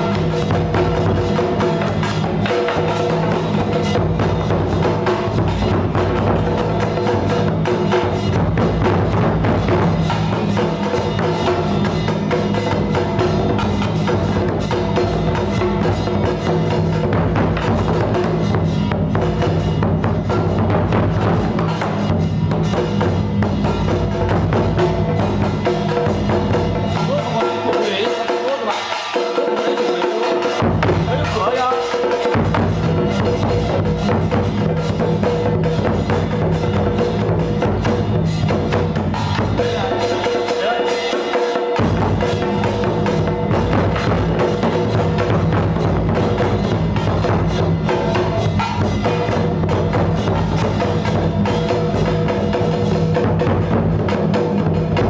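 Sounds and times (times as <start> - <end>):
bass: 0.0 - 27.4, 30.6 - 31.6, 32.4 - 40.3, 41.8 - 55.0
wood block and drum strikes: 0.0 - 55.0.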